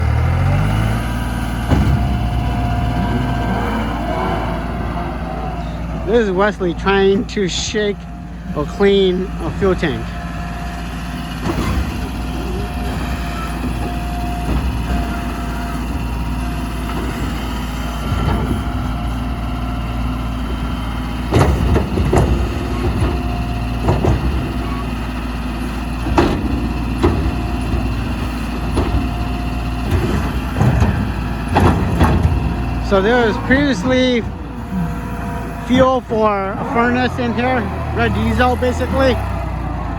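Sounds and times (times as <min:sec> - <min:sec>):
diesel engine running: 0:00.0 - 0:39.9
fuel tank clunks and bangs: 0:00.8 - 0:39.4.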